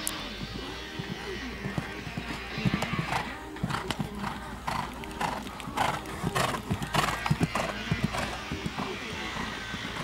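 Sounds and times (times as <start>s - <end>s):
horse hoofbeats on sand: 0.4s - 10.0s.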